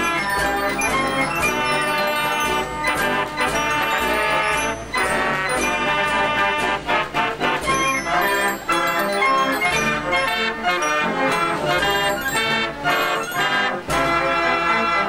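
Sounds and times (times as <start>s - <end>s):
fairground organ playing: 0.0s - 15.0s.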